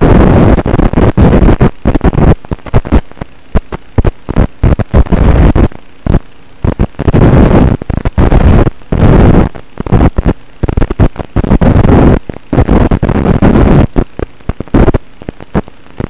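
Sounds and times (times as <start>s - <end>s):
static hiss and crackle: 0.0s - 16.0s.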